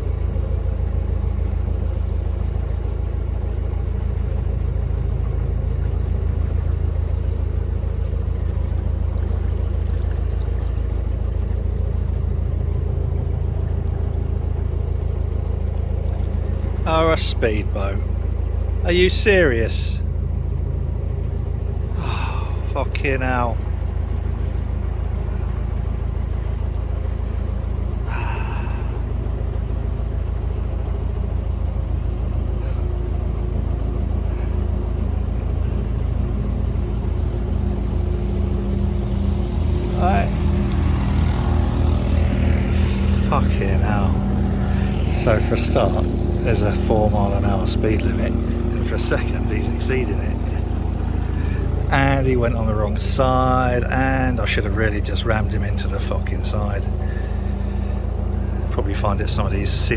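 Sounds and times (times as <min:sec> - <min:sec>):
boat diesel engine chugging: 0:00.0 - 0:59.9.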